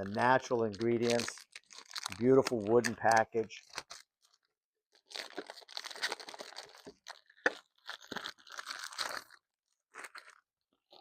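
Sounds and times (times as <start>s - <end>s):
paper packaging rustling: 0.0s - 4.4s, 5.0s - 11.0s.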